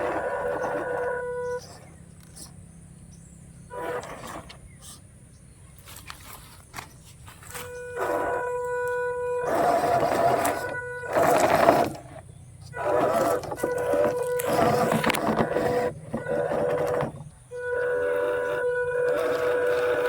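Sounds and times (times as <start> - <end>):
small electric motor bursts: 0.0 - 2.5, 3.7 - 5.0, 7.4 - 20.0.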